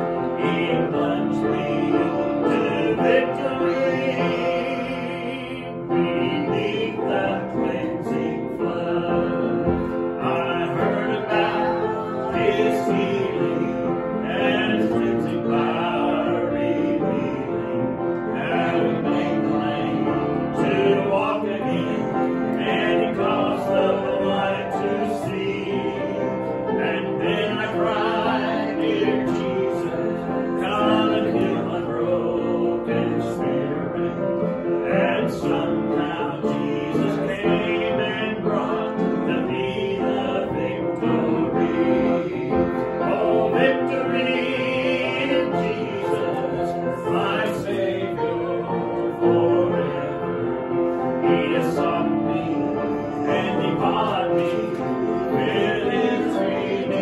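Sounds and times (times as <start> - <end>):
man singing with vibrato: 0.0 - 50.4, 51.2 - 57.0
piano accompaniment: 0.0 - 57.0.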